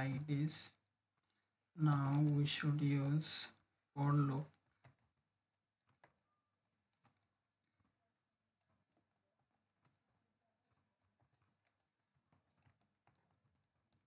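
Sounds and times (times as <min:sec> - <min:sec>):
keyboard typing: 0:01.8 - 0:14.0.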